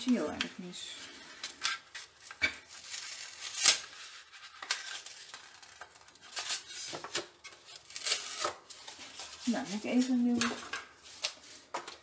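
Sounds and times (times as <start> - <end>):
paper rustling and crinkling: 1.3 - 12.0
sharp paper crackle: 1.4 - 12.0.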